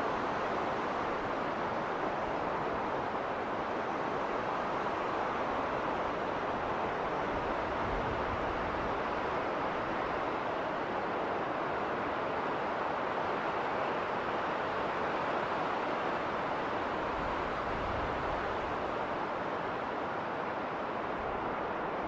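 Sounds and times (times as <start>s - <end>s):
wind blowing in snowstorm: 0.0s - 22.0s.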